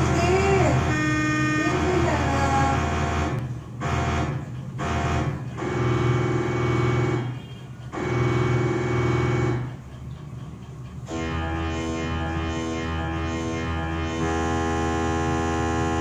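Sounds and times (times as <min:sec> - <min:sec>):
electronic toy buzzy tune: 0:00.0 - 0:10.0, 0:11.0 - 0:16.0.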